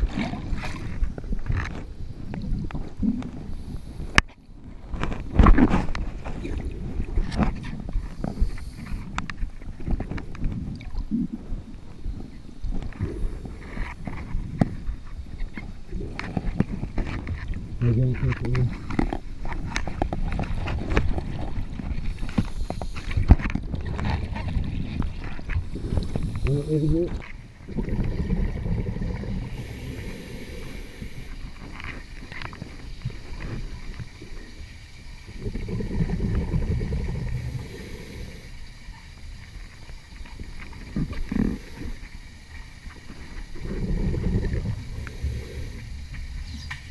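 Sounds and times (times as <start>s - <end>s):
muffled underwater rumbling: 0.0s - 46.9s.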